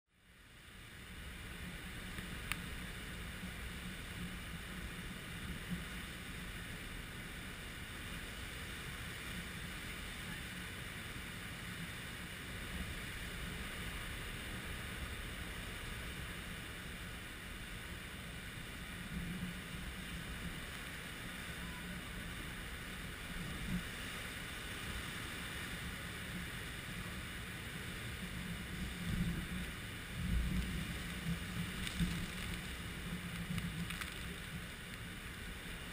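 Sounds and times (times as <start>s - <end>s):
heavy surf on rocky shore: 0.7s - 35.9s.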